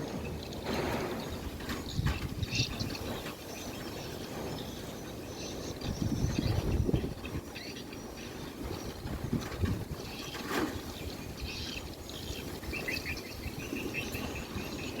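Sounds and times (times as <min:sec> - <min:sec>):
wind rumbling: 0:00.0 - 0:04.8, 0:05.6 - 0:07.5, 0:08.6 - 0:15.0.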